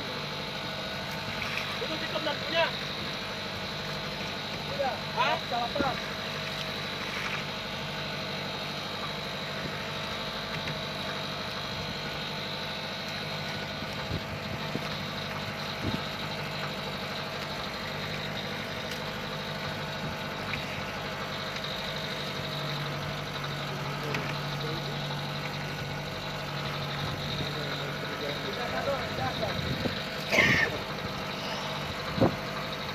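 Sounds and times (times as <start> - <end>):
boat engine idling: 0.0 - 32.9.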